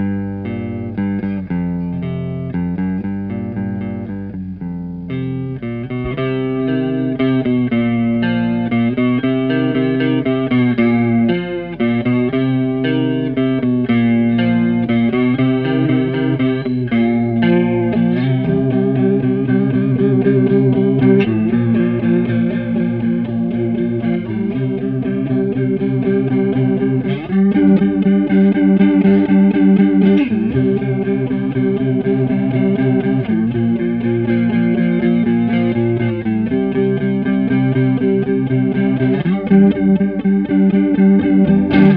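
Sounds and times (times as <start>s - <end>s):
electric guitar riff with chorus: 0.0s - 41.9s.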